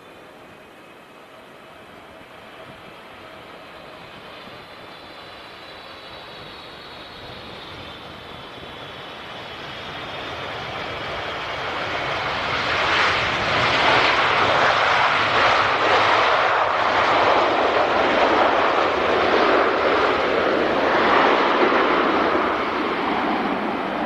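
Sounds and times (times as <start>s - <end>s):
airplane engines roaring: 0.0s - 24.0s.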